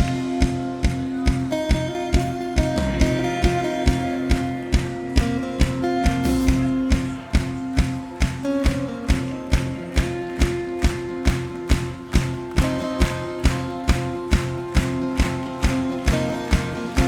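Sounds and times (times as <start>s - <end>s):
band playing instrumental music: 0.0s - 17.0s
guitar chords: 0.0s - 17.0s
steady drum beat: 0.0s - 17.0s.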